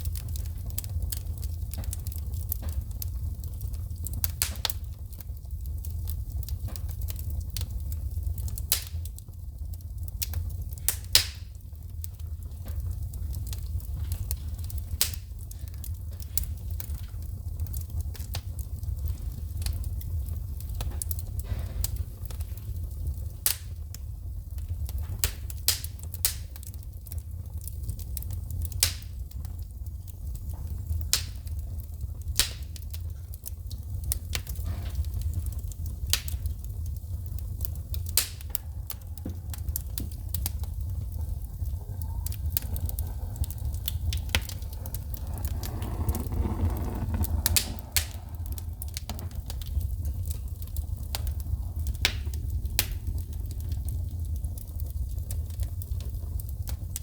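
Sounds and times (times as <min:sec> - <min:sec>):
low rumble of fire: 0:00.0 - 0:57.0
wood fire crackling and popping: 0:00.0 - 0:57.0.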